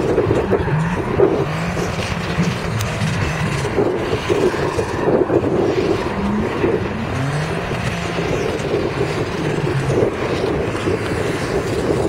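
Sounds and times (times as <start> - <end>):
car engine revving: 0.0 - 12.0
tyres spinning: 0.0 - 12.0.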